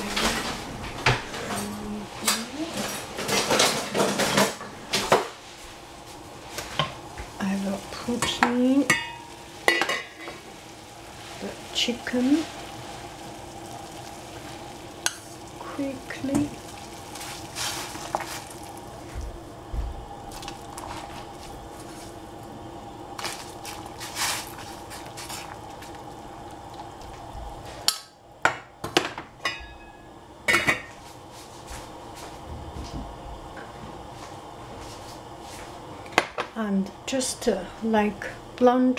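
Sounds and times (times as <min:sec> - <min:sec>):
water boiling in a saucepan: 0:00.0 - 0:38.9.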